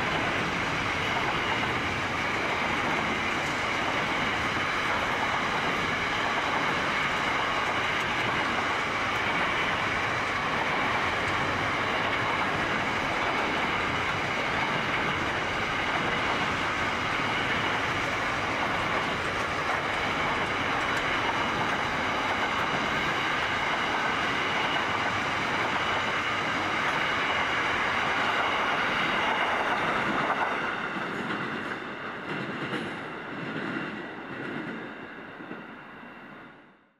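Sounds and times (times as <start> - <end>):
train wheels rolling on rails: 0.0 - 36.6.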